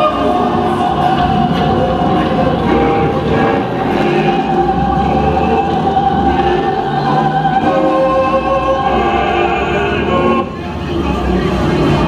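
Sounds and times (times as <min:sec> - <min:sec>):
electronic drone music: 0:00.0 - 0:12.0.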